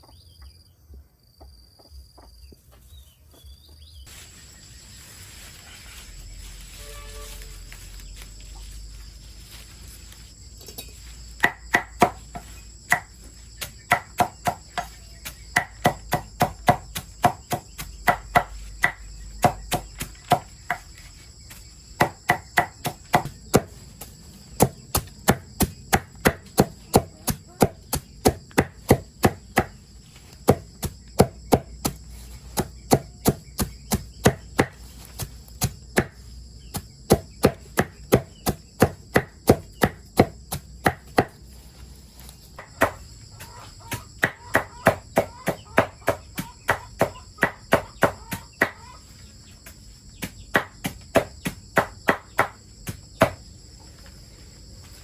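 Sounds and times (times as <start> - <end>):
high insect drone: 0.1 - 55.0.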